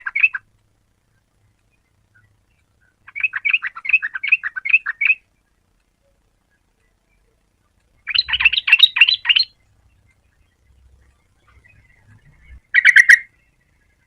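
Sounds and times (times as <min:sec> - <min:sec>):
bulbul singing: 0:00.0 - 0:00.5, 0:01.6 - 0:14.0.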